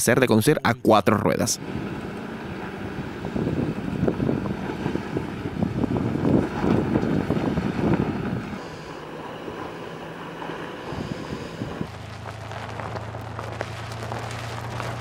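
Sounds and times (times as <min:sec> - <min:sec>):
truck engine running: 0:01.5 - 0:15.0
wind noise: 0:01.6 - 0:15.0
tyres on rocky gravel: 0:01.9 - 0:15.0.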